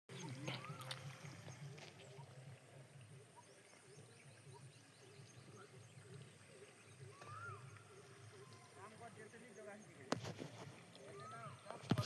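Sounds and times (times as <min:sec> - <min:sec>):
faint chirping calls: 0:00.1 - 0:12.0.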